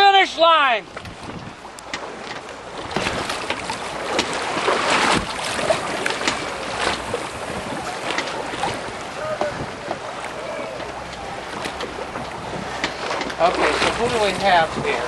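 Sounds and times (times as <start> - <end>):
water splashing against hull: 0.0 - 15.0
wind blowing across microphone: 0.8 - 15.0.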